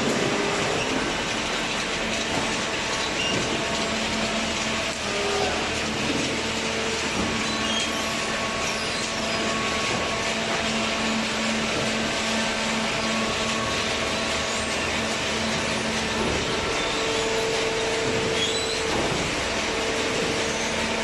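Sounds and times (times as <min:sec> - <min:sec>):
hydraulic baler motor and pump humming: 0:00.0 - 0:21.0.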